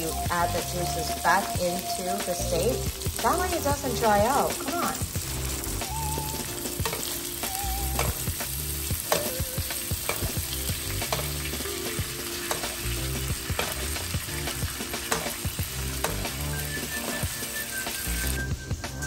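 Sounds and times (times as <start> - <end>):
steak sizzling in a frying pan: 0.0 - 19.0.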